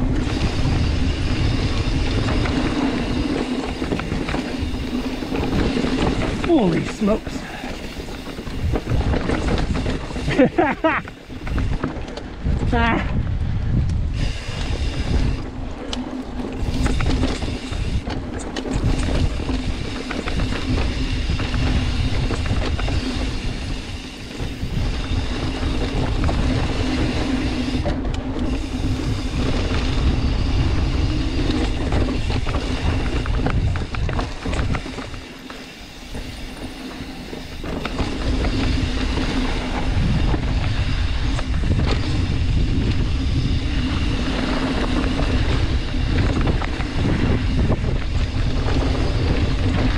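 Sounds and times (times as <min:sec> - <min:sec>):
vehicle rumbling and rattling: 0:00.0 - 0:49.9
wind on microphone: 0:00.0 - 0:49.9.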